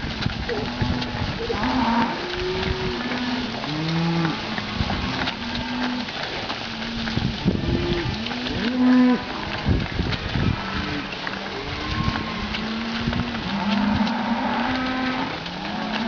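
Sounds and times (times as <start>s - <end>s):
cattle mooing: 0.5s - 16.0s.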